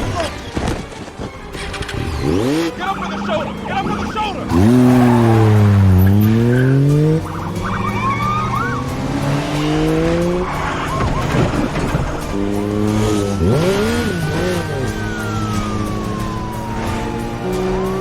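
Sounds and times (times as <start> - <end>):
tyre squeals: 0.0 - 15.3
background music: 0.0 - 18.0
vehicle engines revving: 0.0 - 18.0
rising siren: 2.2 - 18.0.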